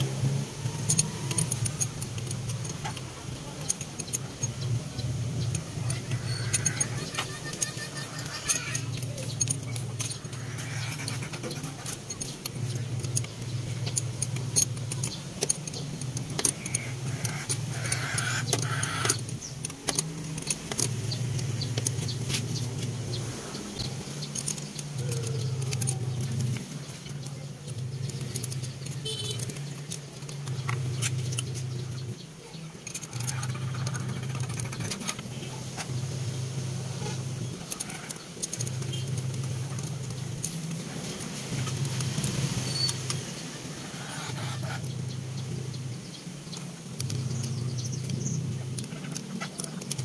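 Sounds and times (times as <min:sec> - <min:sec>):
metal clicks and clinks of parts: 0:00.0 - 0:50.0.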